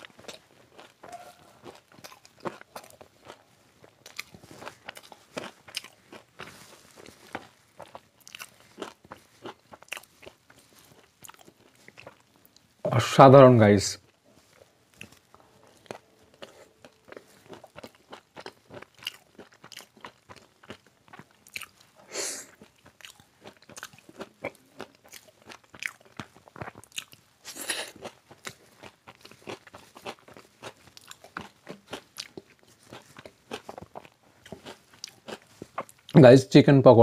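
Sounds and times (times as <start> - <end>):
chewing and crunching food: 0.0 - 12.8, 14.0 - 36.2.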